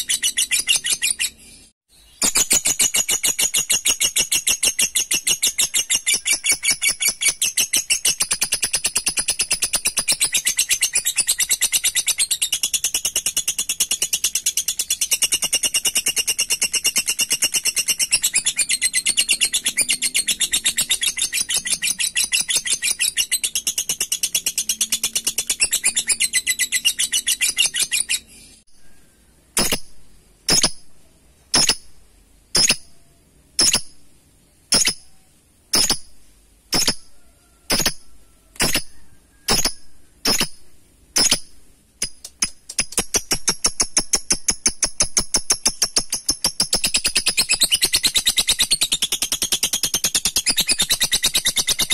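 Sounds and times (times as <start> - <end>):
sharp bird calls: 0.0 - 31.9, 34.7 - 41.6, 42.2 - 51.9.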